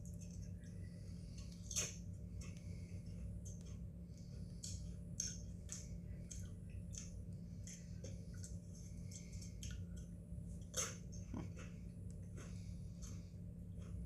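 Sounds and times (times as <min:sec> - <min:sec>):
low hum: 0:00.0 - 0:14.0
crisps being chewed: 0:01.3 - 0:14.0.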